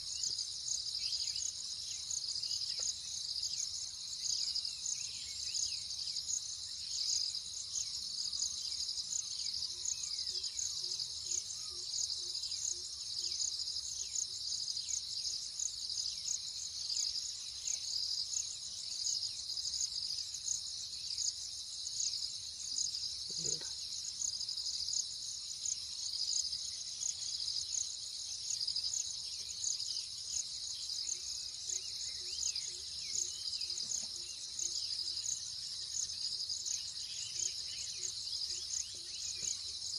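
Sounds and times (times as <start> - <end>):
shrill insect chorus: 0.0 - 39.9.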